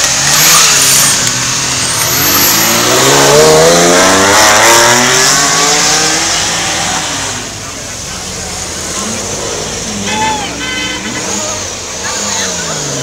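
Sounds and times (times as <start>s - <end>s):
sports car engines accelerating: 0.0s - 13.0s.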